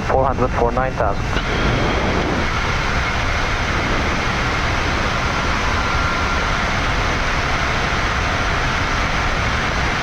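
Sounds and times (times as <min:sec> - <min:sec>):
airflow and engine noise: 0:00.0 - 0:10.0.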